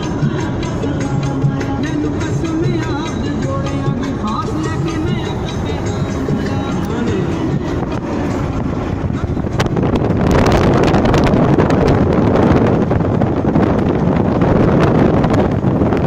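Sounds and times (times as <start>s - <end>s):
car road noise: 0.0s - 16.0s
wind on microphone: 0.0s - 16.0s.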